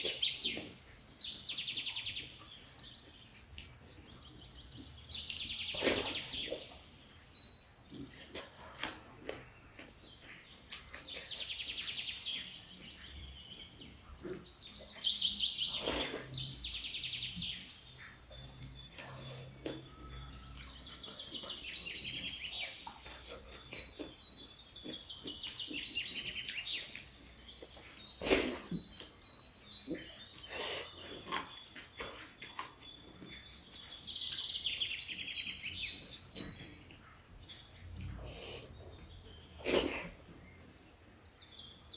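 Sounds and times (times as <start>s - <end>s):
songbird trilling and chirping: 0.0s - 41.9s.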